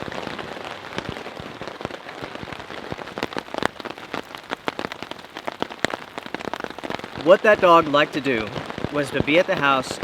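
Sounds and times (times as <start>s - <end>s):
rain hissing: 0.0s - 10.0s
raindrops striking a tarp: 0.0s - 10.0s.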